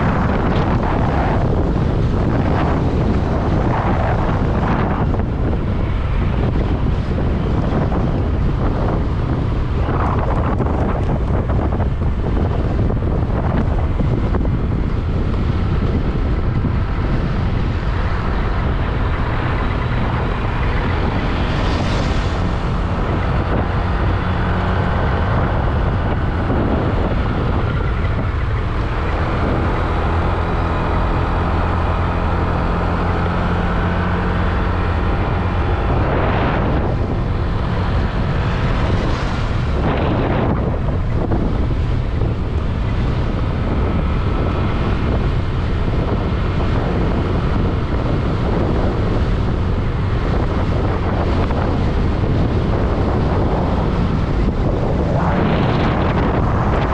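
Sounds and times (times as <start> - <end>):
scooter engine drone: 0.0 - 56.9
wind rush on microphone: 0.0 - 56.9.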